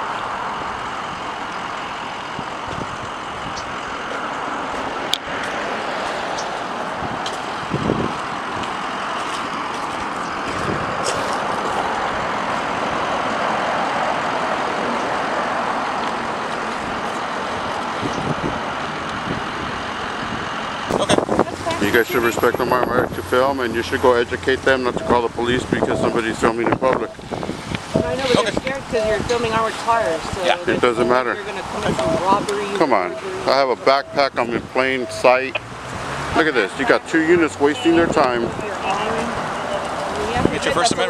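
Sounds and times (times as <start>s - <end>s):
road traffic noise: 0.0s - 41.0s.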